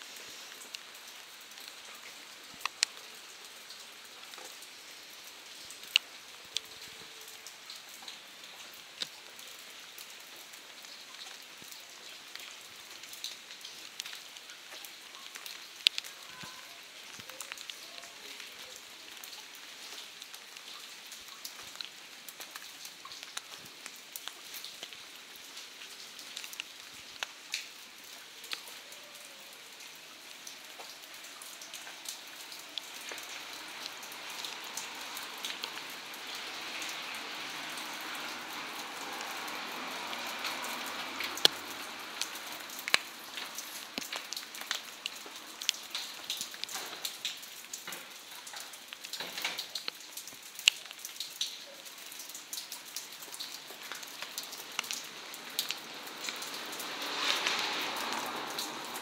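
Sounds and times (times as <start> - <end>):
rain falling: 0.0 - 59.0
raindrops ticking sharply: 0.2 - 59.0.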